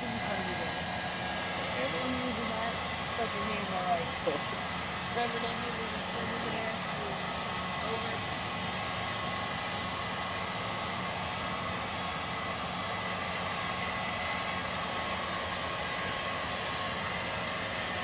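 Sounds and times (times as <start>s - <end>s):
machine drone with high whine: 0.0s - 18.0s.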